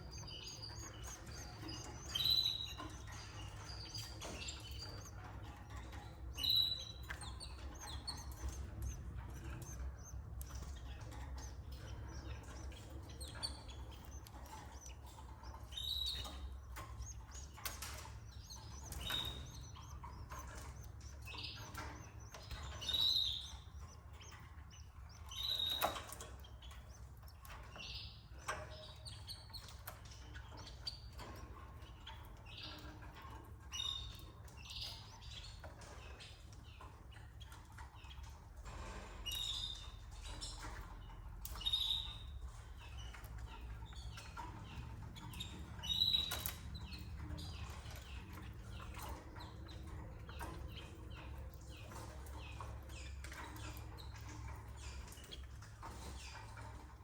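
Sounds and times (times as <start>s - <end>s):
canaries chirping: 0.0s - 57.0s
small clicks and rustling: 0.0s - 57.0s.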